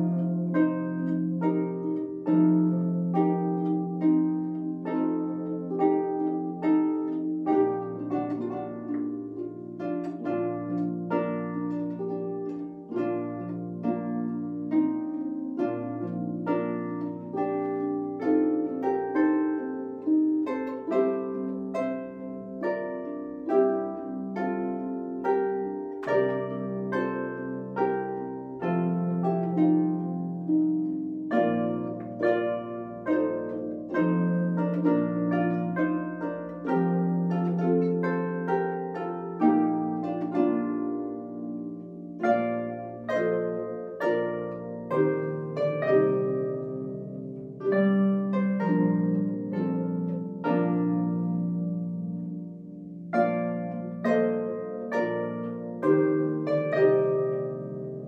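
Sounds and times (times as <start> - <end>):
harps playing a hymn: 0.0 - 58.0.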